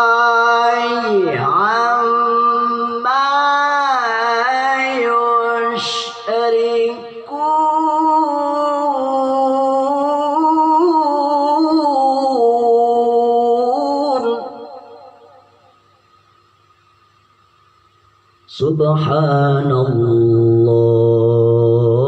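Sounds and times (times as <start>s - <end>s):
man chanting recitation: 0.0s - 14.7s, 18.5s - 22.0s.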